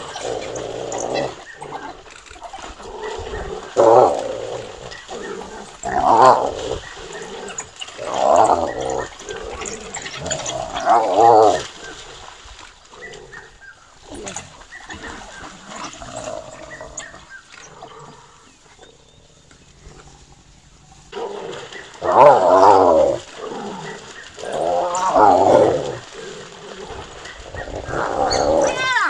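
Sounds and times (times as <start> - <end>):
splashing and scuffling in water: 0.0 - 17.6, 21.1 - 29.0.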